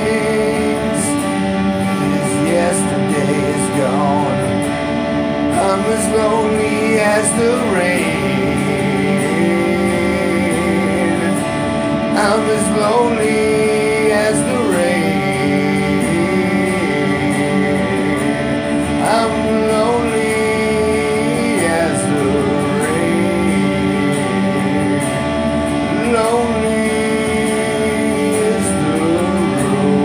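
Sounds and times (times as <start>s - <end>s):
instrumental song with guitar: 0.0s - 30.0s.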